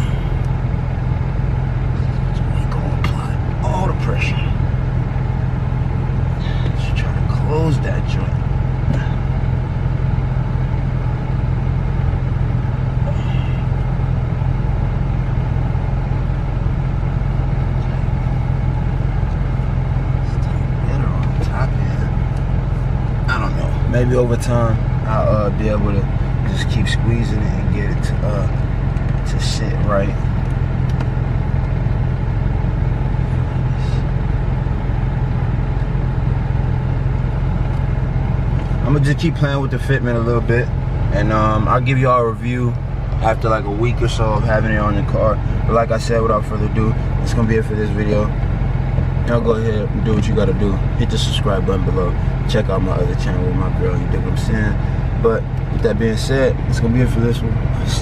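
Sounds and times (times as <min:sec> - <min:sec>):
car air conditioning blowing: 0:00.0 - 0:58.0
steady low hum: 0:00.0 - 0:58.0.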